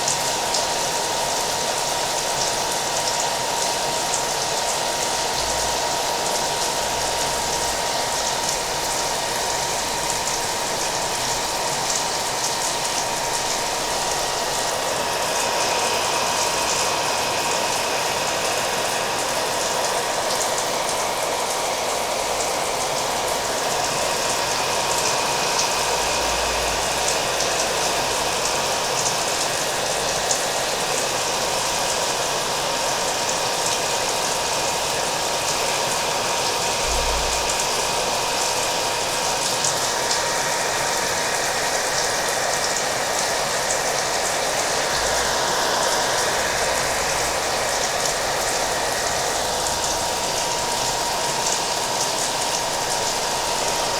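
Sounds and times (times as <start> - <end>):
hair dryer running: 0.0 - 53.9
steady rain: 0.0 - 53.9.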